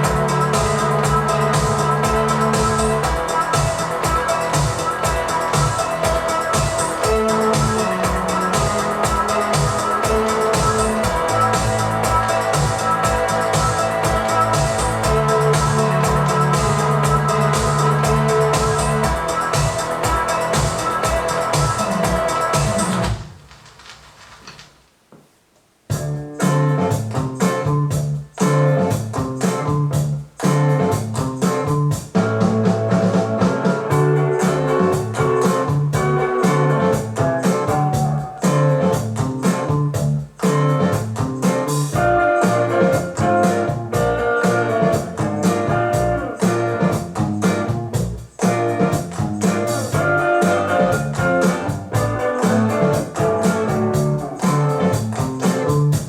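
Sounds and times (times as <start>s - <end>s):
guitar music through speakers: 0.0s - 23.2s, 25.9s - 56.0s
bass line: 0.0s - 23.3s, 25.9s - 56.0s.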